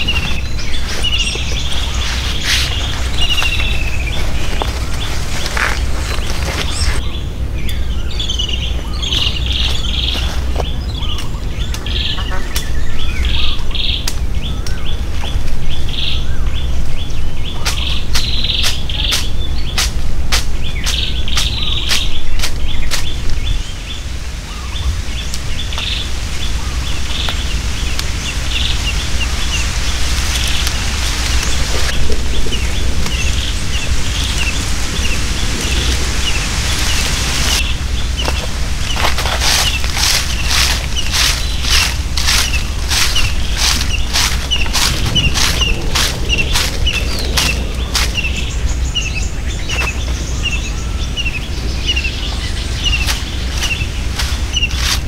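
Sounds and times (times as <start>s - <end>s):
forest birds chirping: 0.0s - 55.0s
steady low rumble: 0.0s - 55.0s.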